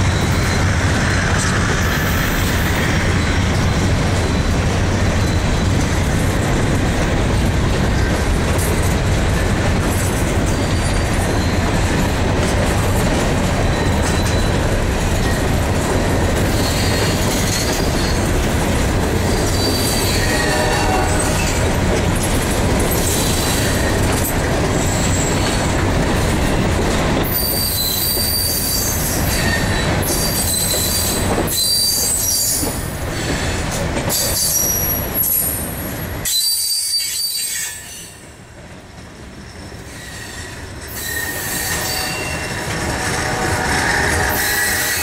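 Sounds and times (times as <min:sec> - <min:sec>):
train wheels squealing on rail: 0:00.0 - 0:06.2, 0:09.9 - 0:18.4, 0:19.2 - 0:21.7, 0:22.3 - 0:25.8, 0:27.2 - 0:38.4, 0:39.2 - 0:45.0
freight train rumble: 0:00.0 - 0:45.0.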